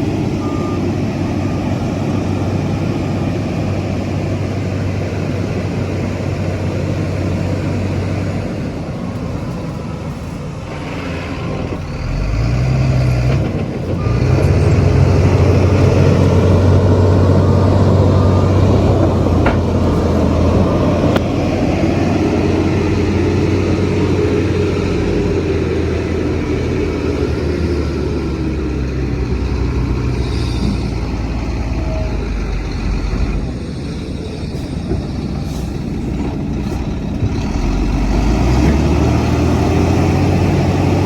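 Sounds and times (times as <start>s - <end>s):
diesel earthmoving machinery drone: 0.0s - 41.0s.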